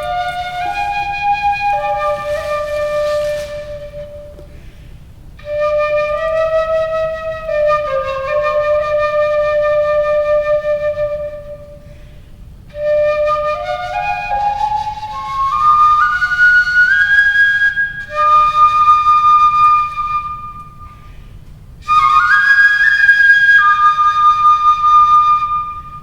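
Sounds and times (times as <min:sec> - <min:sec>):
bamboo flute melody: 0:00.0 - 0:12.1, 0:12.7 - 0:21.2, 0:21.8 - 0:26.0.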